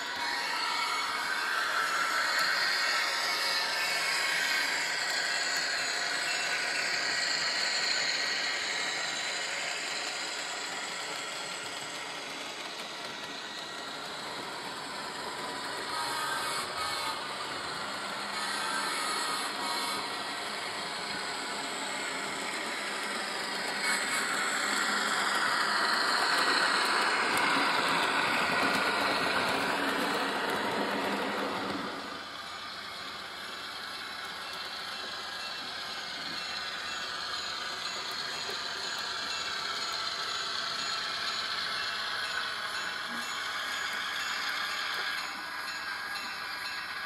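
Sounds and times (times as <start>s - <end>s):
model train diesel engine sound: 0.0s - 47.0s
model train running: 0.0s - 47.0s.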